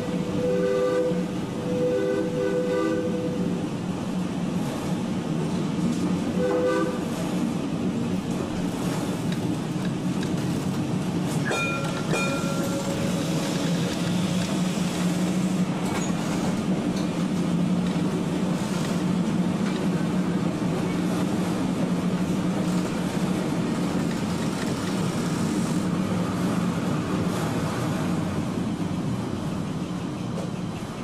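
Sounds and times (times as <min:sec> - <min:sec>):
tram running along track: 0:00.0 - 0:31.0.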